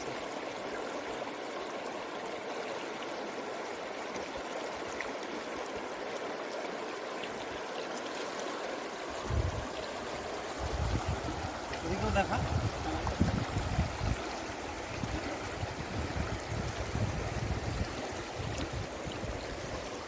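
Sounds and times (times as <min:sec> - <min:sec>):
river water flowing over stones: 0:00.0 - 0:20.0.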